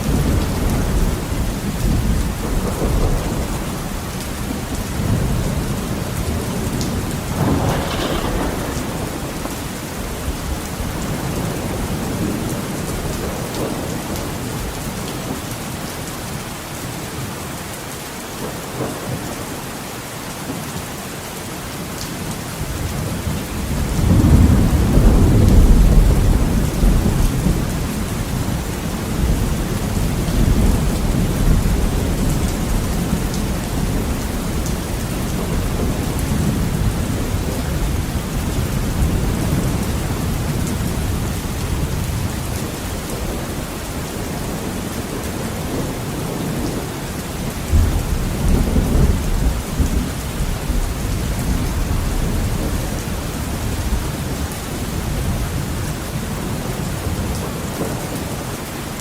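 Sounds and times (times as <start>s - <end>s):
thunder rumbling: 0.0s - 15.4s, 22.6s - 58.4s
heavy rain falling: 0.0s - 59.0s.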